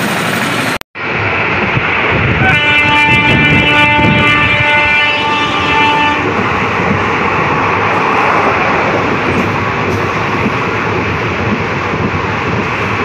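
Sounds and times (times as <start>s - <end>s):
rushing air: 0.0s - 13.0s
wheels rumbling on rails: 0.0s - 13.0s.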